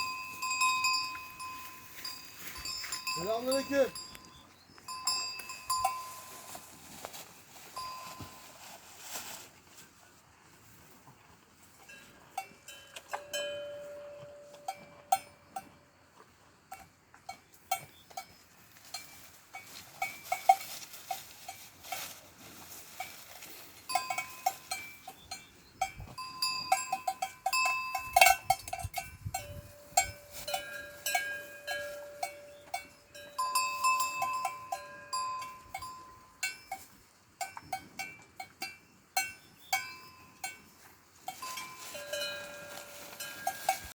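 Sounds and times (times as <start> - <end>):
cowbells clanking: 0.0 - 8.8, 11.2 - 15.9, 16.7 - 43.9.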